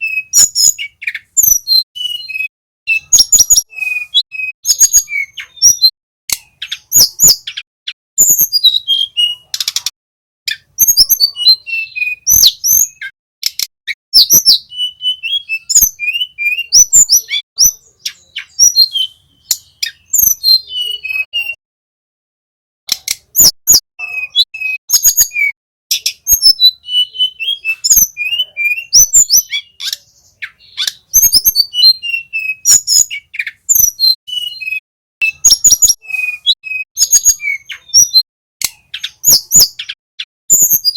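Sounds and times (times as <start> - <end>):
flycatchers singing: 0.0 - 9.8, 10.5 - 21.6, 23.2 - 38.2.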